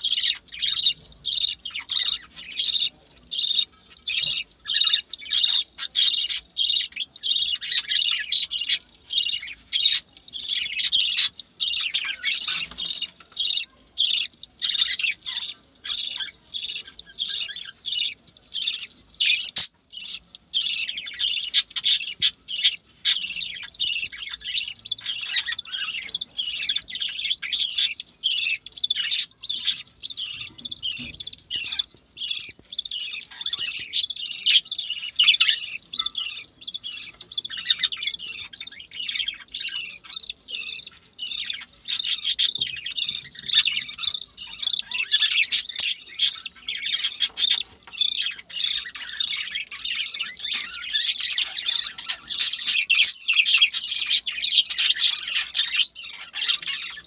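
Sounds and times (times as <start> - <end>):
chicks chirping rapidly: 0.0 - 57.0.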